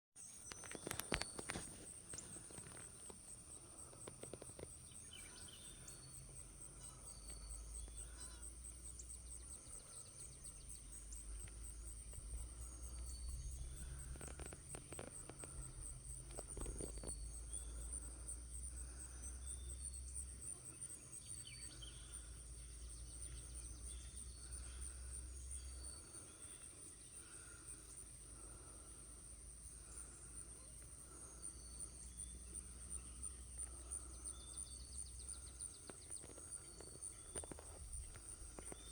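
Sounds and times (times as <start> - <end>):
insects chirring: 0.2 - 38.9.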